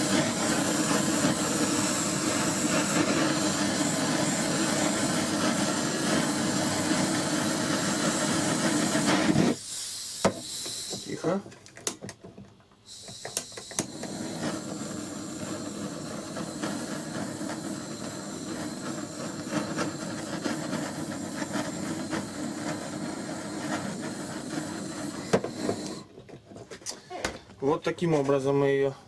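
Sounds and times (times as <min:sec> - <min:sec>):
gas torch flame hissing: 0:00.0 - 0:11.4, 0:12.8 - 0:26.1.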